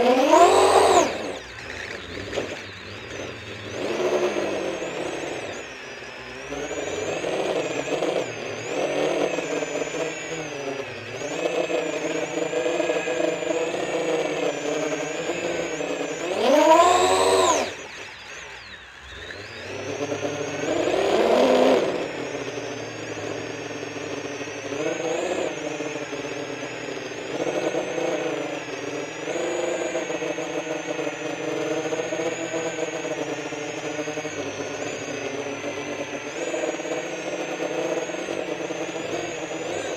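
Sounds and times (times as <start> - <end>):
quadcopter propellers whining: 0.0 - 39.9.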